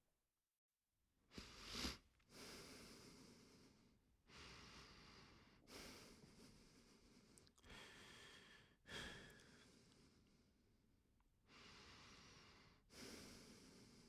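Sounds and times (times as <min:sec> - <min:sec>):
person breathing deeply: 0:01.3 - 0:10.6, 0:11.5 - 0:14.0.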